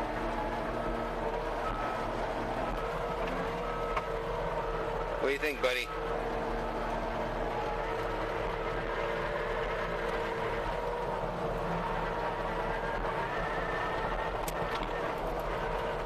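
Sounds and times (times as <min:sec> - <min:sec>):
skid steer engine running: 0:00.0 - 0:16.0.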